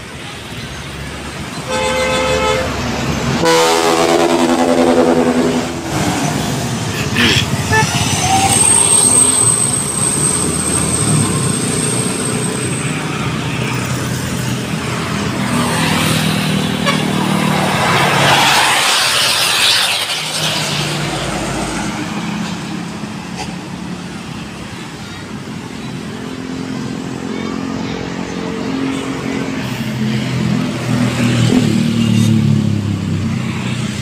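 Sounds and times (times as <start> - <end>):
road traffic: 0.0 - 34.0
heavy vehicle engine passing: 2.2 - 34.0.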